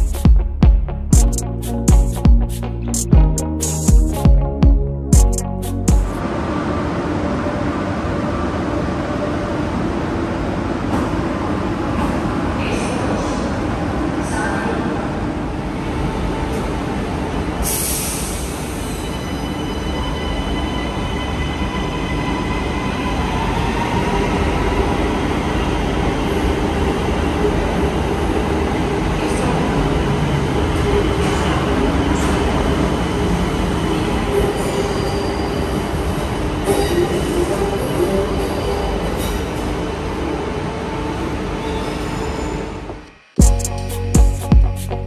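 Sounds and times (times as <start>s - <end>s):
metro train rumble: 0.0s - 45.0s.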